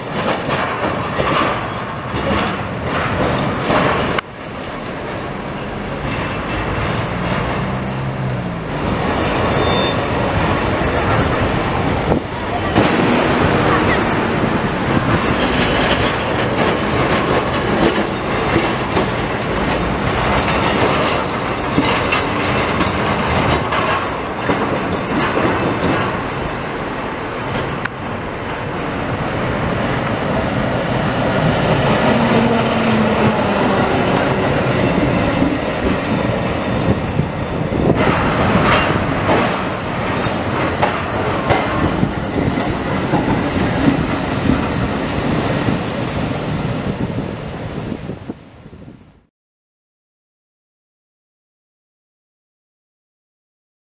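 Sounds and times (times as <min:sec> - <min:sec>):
tram wheels clattering on rails: 0:00.0 - 0:48.9.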